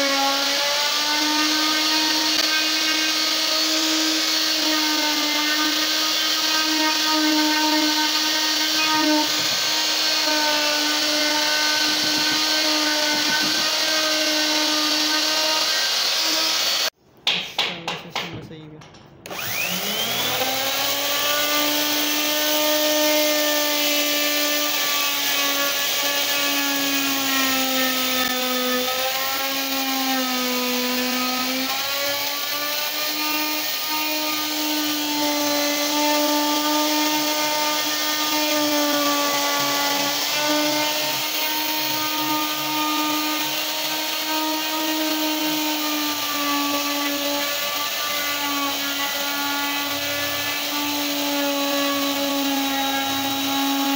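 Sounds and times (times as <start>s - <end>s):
router cutting wood: 0.0s - 17.0s, 19.2s - 53.9s.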